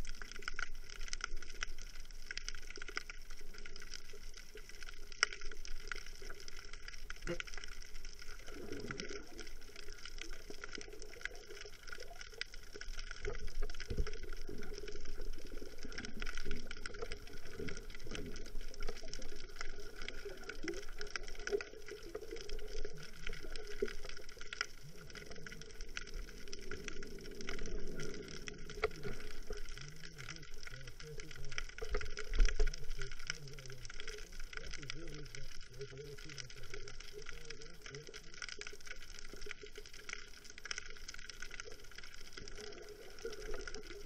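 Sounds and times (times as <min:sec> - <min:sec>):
muffled underwater water noise: 0:00.0 - 0:44.0.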